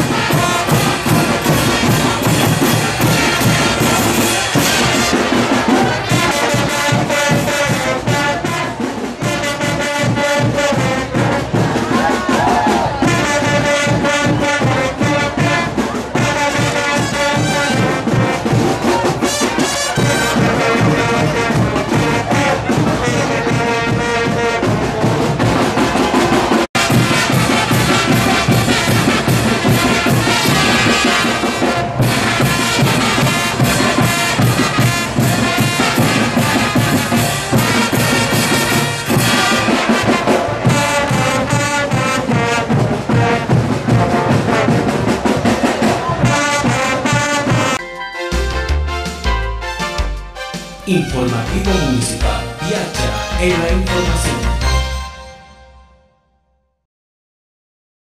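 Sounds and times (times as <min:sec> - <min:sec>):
steady drum beat: 0:00.0 - 0:54.8
brass band playing: 0:00.0 - 0:56.2.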